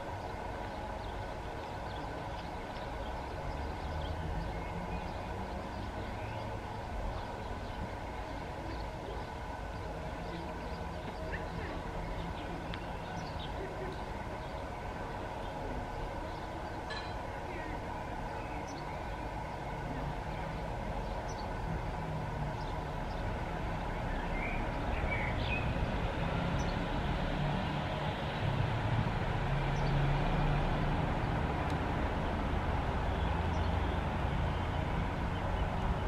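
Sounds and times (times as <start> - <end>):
birds chirping: 0.0 - 36.0
low vehicle rumble: 0.0 - 36.0.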